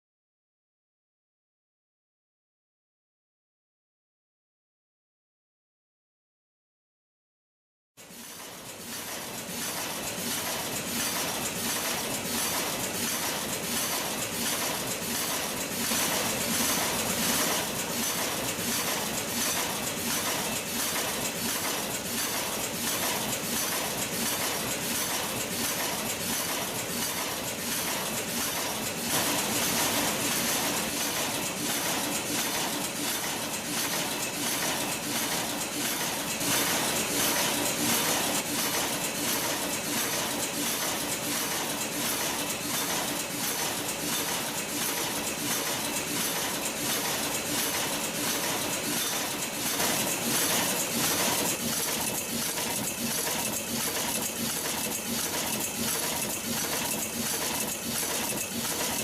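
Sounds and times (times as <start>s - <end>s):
wire crimping machine clattering: 9.6s - 59.0s.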